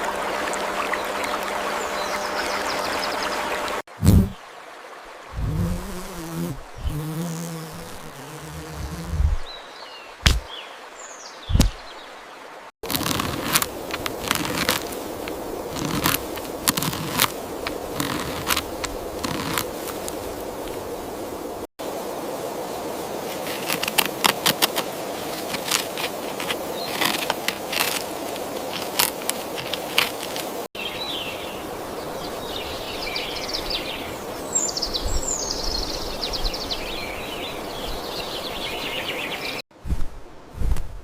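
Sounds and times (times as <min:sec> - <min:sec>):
steady background hiss: 0:00.0 - 0:41.0
songbirds chirping: 0:00.2 - 0:21.6, 0:25.0 - 0:39.6.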